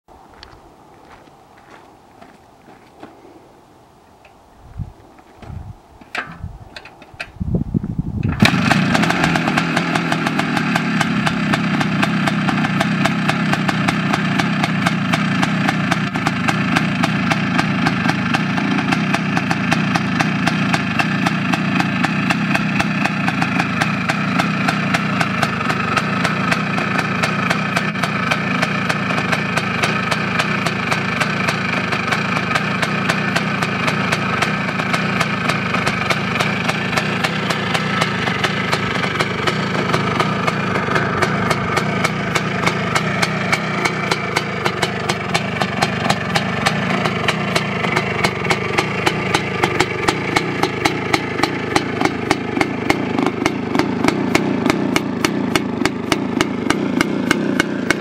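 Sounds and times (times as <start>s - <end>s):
motorcycle kick-start kicks: 5.2s - 7.4s, 8.2s - 58.0s
two-stroke engine idling: 8.2s - 58.0s.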